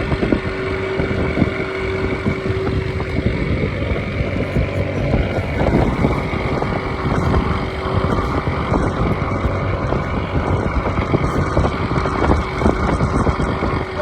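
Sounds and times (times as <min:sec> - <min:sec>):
boat engine running: 0:00.0 - 0:14.0
wind on microphone: 0:00.0 - 0:14.0.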